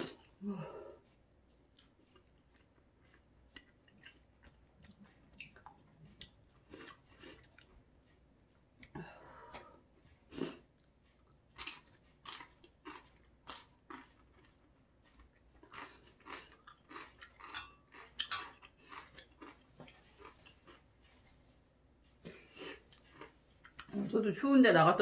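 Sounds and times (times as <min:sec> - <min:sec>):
chewing crunchy cabbage: 0:01.0 - 0:08.9, 0:09.8 - 0:24.0.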